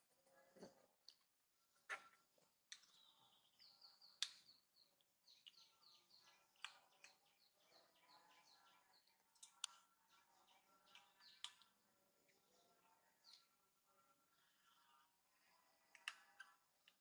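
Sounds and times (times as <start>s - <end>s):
faint high chirping: 1.8s - 17.0s.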